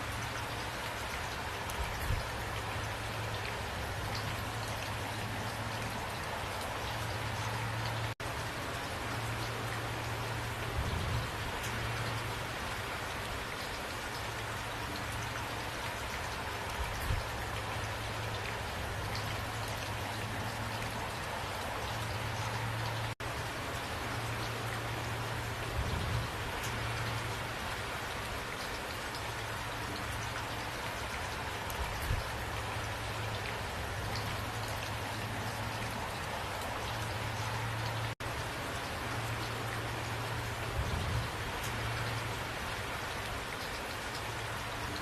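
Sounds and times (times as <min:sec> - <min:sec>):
steady rainfall: 0:00.0 - 0:45.0.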